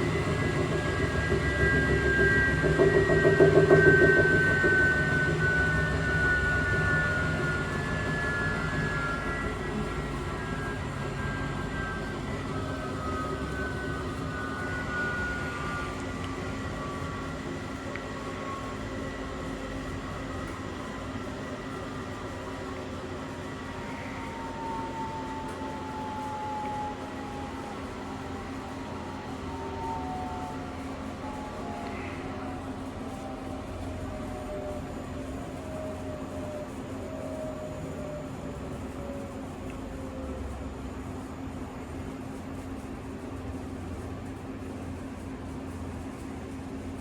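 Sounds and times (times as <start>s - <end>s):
washing machine motor whine: 0.0s - 47.0s.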